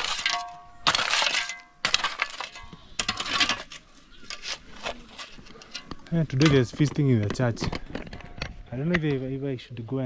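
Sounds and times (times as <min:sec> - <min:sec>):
metal tools scraping gravel: 0:00.0 - 0:09.2.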